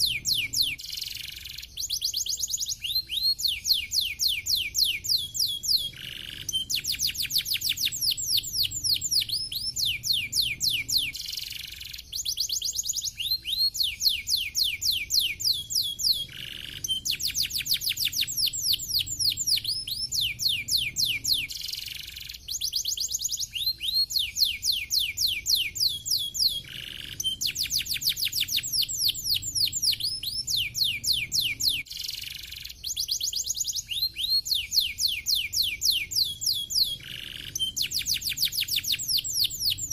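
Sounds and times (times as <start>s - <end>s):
canary trilling song: 0.0s - 39.9s.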